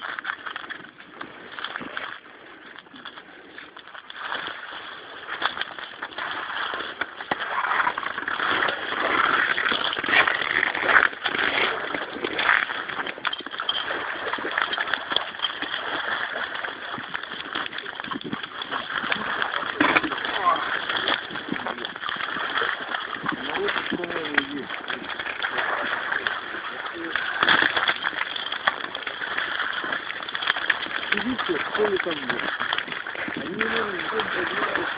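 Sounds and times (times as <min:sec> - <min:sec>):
water sloshing and splashing: 0:00.0 - 0:34.9.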